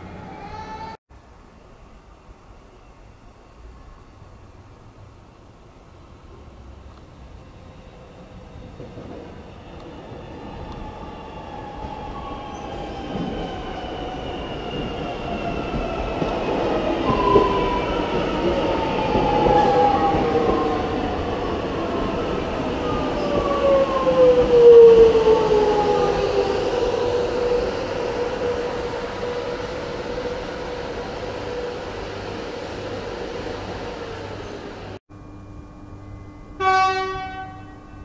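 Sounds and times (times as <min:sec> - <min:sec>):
electric train whining and rumbling: 0:03.5 - 0:38.0.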